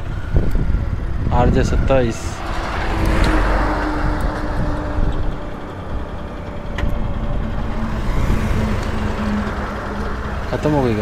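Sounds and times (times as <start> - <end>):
road traffic: 0.0 - 11.0
vehicle engine running: 0.0 - 11.0.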